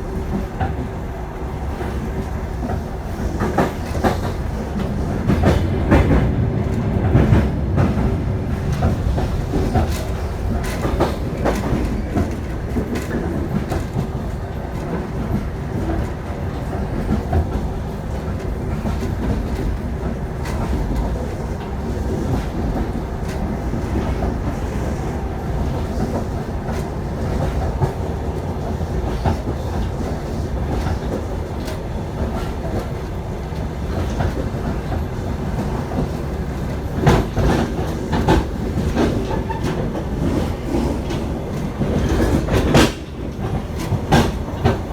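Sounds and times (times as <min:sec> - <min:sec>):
clickety-clack of rail joints: 0:00.0 - 0:44.9
train wheels rumbling on rails: 0:00.0 - 0:44.9.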